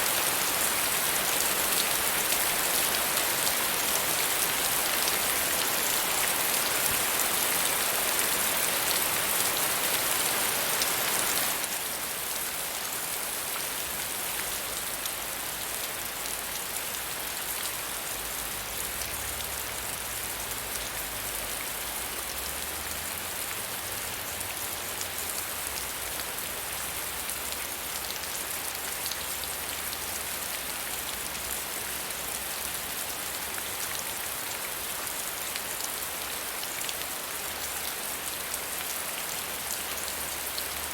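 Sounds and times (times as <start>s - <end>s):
soft rain pattering: 0.0s - 40.9s.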